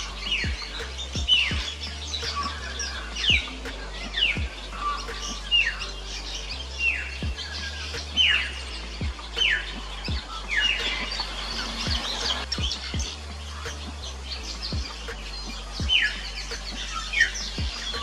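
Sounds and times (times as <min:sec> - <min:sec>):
background music with bass: 0:00.0 - 0:18.0
birds giving falling chirps: 0:00.0 - 0:18.0.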